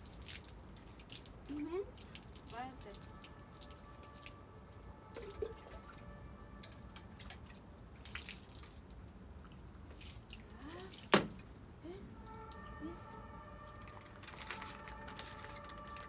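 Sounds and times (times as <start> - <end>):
water pouring over dog: 0.0 - 11.6, 13.7 - 16.0
water splattering on paving: 0.0 - 11.7, 13.6 - 16.0.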